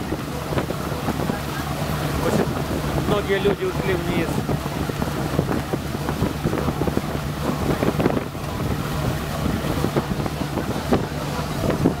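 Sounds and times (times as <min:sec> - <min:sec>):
boat engine humming: 0:00.0 - 0:12.0
wind buffeting microphone: 0:00.0 - 0:12.0.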